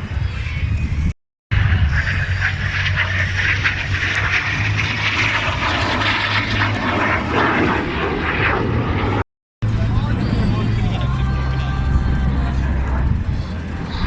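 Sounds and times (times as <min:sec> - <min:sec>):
aircraft engine drone: 0:01.5 - 0:14.0.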